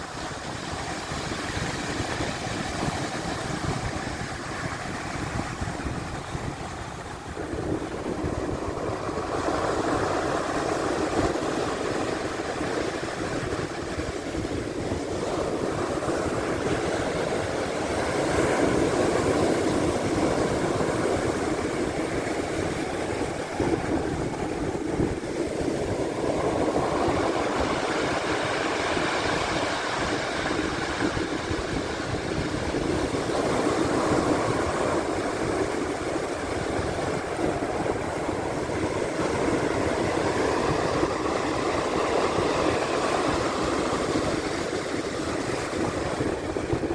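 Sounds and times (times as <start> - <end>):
waves washing ashore: 0.0 - 46.9.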